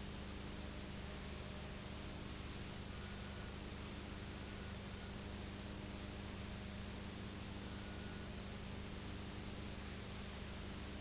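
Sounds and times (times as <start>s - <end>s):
low constant hum: 0.0s - 11.0s
tape hiss: 0.0s - 11.0s.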